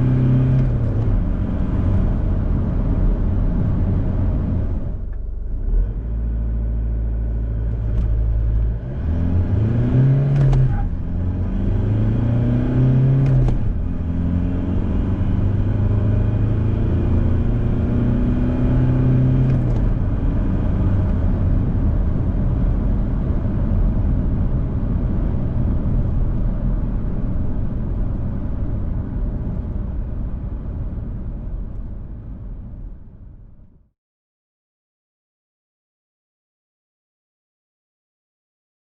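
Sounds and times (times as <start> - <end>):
diesel engine accelerating: 0.0 - 33.5.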